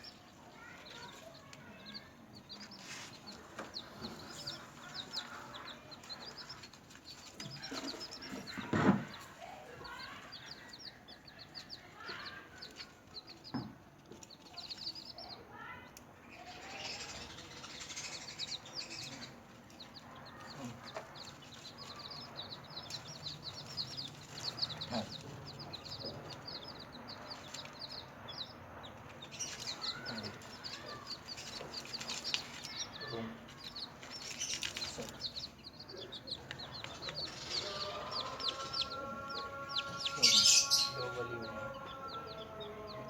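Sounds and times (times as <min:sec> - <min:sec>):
chicks peeping: 0:00.0 - 0:43.0.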